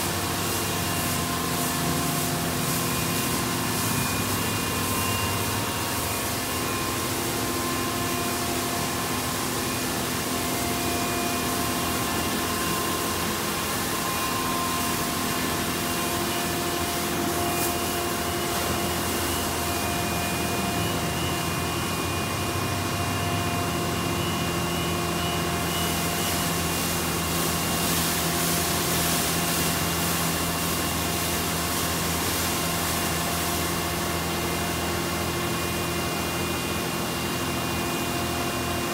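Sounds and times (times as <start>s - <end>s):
high-pressure water spray hissing: 0.0s - 21.9s, 22.6s - 38.9s
pumps and motors humming: 0.0s - 38.9s.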